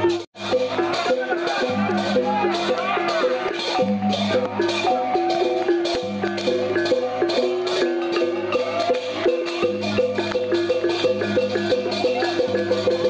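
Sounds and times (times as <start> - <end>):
metallophone melody: 0.0 - 13.0.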